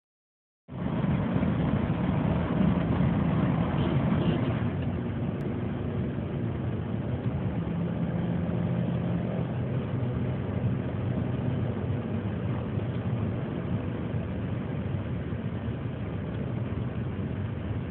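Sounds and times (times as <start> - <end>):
car engine drone: 0.7 - 17.9
road and wind noise: 0.7 - 17.9.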